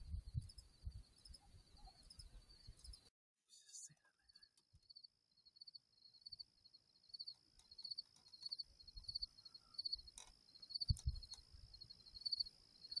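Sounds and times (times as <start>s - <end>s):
crickets chirping: 0.0s - 3.1s, 4.2s - 13.0s.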